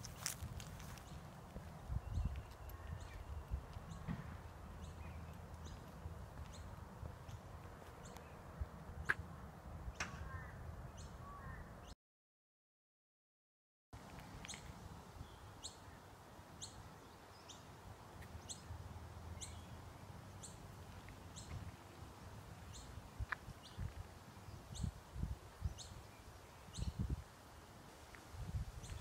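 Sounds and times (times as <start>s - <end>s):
faint outdoor background noise: 0.0s - 12.0s, 14.0s - 29.0s.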